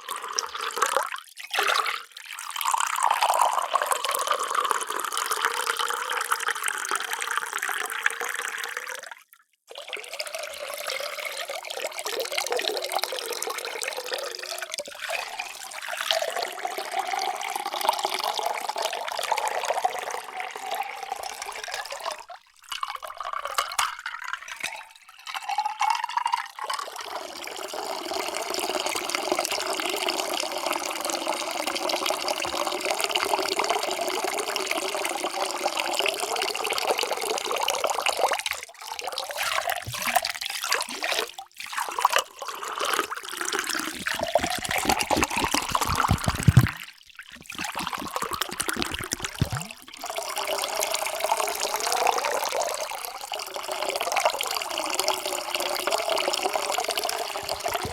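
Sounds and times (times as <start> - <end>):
water pouring into a vessel: 0.0 - 57.9.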